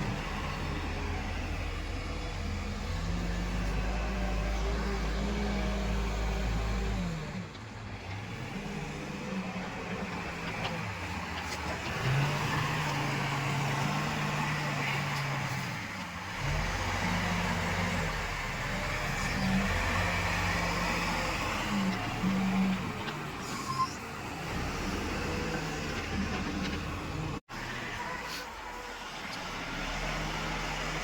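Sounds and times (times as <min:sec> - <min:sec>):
heavy diesel engine revving: 0:00.0 - 0:07.5, 0:08.1 - 0:31.0.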